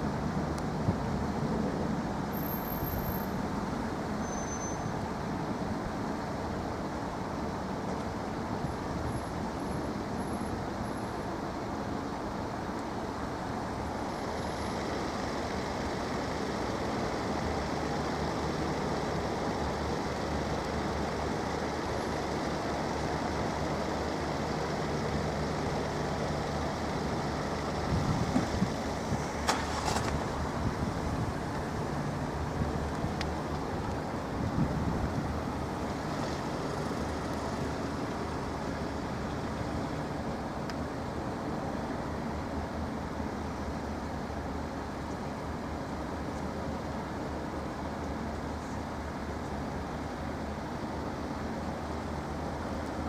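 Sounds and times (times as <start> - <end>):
vehicle engines running: 0.0 - 53.0.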